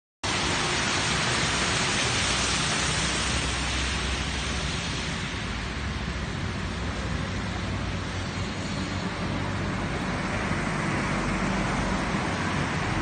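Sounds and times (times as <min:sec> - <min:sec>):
car tyres spraying floodwater: 0:00.2 - 0:13.0.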